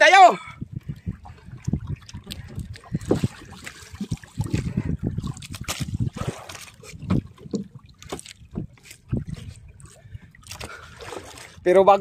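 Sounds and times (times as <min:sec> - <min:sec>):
water splashing against hull: 0:00.0 - 0:12.0.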